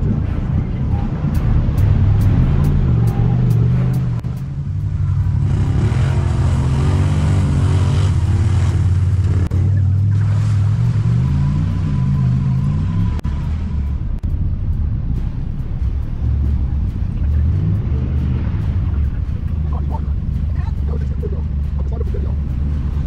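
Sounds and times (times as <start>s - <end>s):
utility vehicle engine running: 0.0s - 23.0s.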